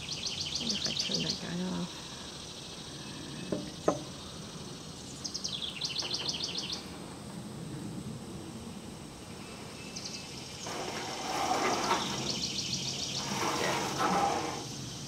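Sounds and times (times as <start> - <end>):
songbird singing: 0.0 - 7.3, 9.2 - 15.0.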